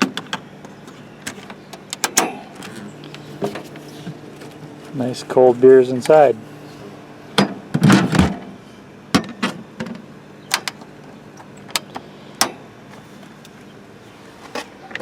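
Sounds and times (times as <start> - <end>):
fridge compressor humming: 0.0 - 15.0.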